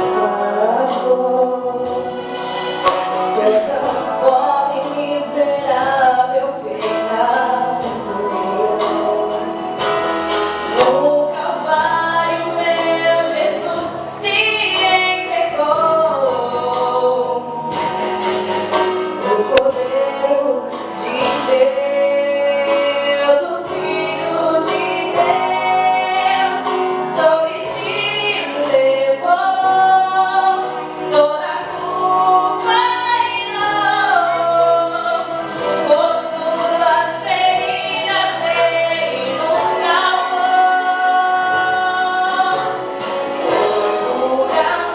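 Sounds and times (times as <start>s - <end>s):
woman singing: 0.0s - 9.8s, 10.7s - 18.4s, 19.1s - 44.9s
people singing: 0.0s - 18.0s, 19.2s - 44.9s
instrumental accompaniment: 0.0s - 44.9s.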